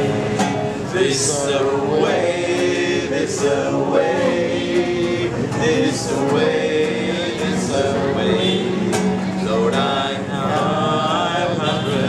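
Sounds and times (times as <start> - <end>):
men singing together: 0.0 - 12.0.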